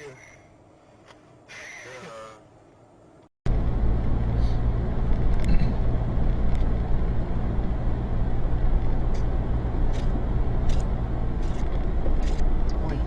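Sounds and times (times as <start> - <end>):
vehicle engine humming: 2.1 - 13.0
road rumble: 2.4 - 13.0.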